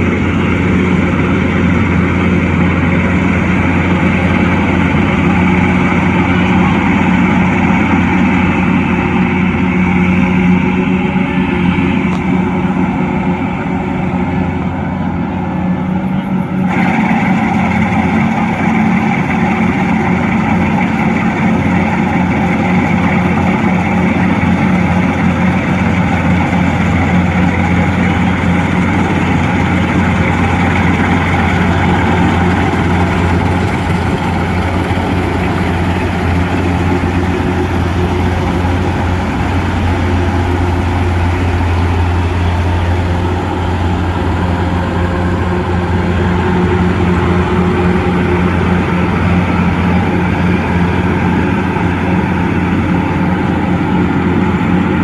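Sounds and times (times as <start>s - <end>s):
diesel engine running: 0.0s - 55.0s
rushing mechanical noise: 0.0s - 55.0s.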